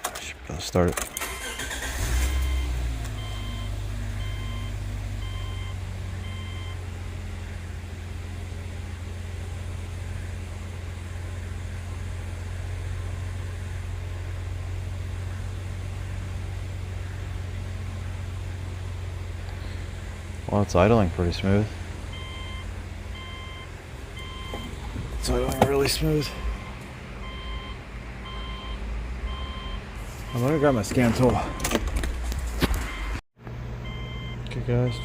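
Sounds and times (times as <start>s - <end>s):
car engine idling: 0.2s - 35.0s.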